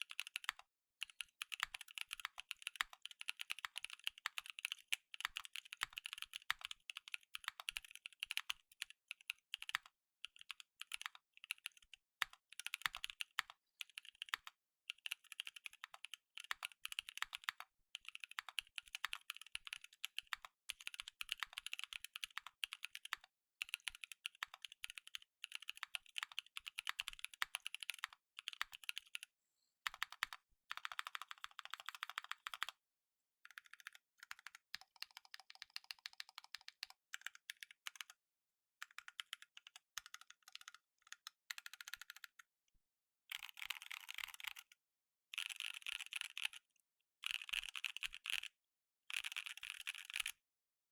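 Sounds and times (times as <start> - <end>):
mechanical keyboard typing: 0.1 - 8.9, 9.5 - 29.2, 29.9 - 32.8, 33.5 - 38.1, 38.9 - 42.3, 43.3 - 44.7, 45.4 - 46.6, 47.2 - 48.5, 49.1 - 50.3.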